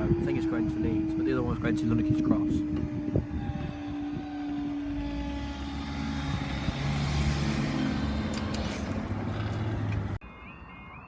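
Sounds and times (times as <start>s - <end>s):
train passing rushing rumble: 0.0s - 10.2s.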